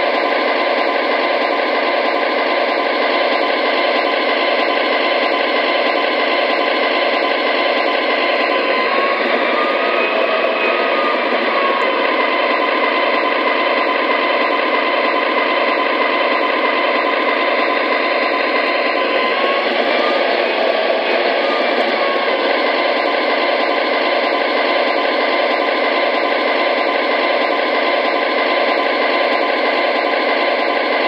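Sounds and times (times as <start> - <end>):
model train diesel engine drone: 0.0 - 31.0.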